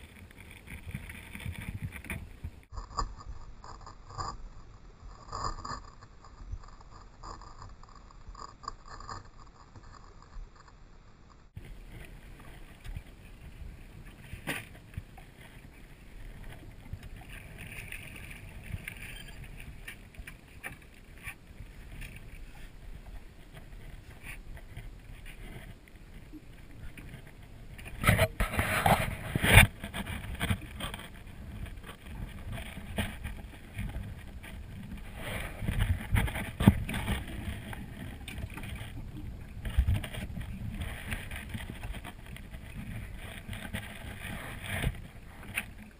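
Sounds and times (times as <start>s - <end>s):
low rumble of wind and water: 0.0s - 45.9s.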